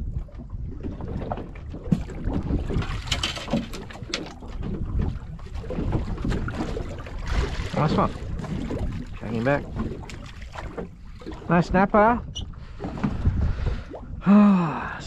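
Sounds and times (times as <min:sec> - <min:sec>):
water slapping boat hull: 0:00.0 - 0:14.3
wind: 0:00.0 - 0:15.0.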